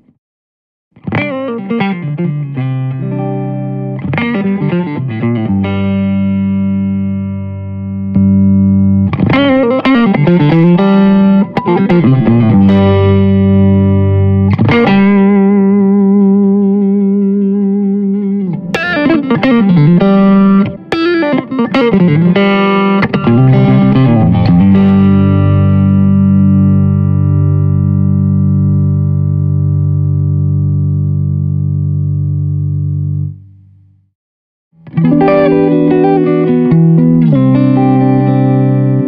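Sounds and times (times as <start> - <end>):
electric guitar playing: 1.0 - 33.5, 34.8 - 39.0.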